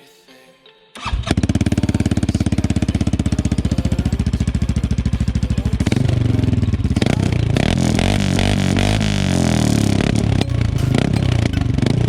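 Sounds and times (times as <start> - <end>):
atv engine pulsing and revving: 1.0 - 12.0.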